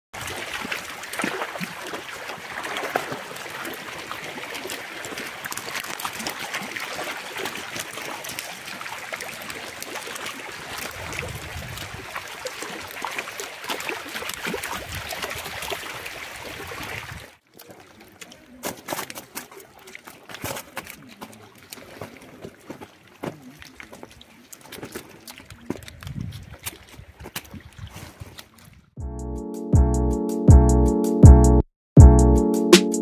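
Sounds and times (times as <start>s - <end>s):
shallow water trickling over mud: 0.2s - 29.0s.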